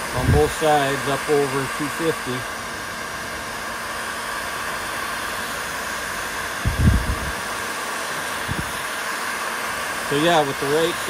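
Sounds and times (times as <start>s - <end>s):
heat gun blowing: 0.0s - 11.0s.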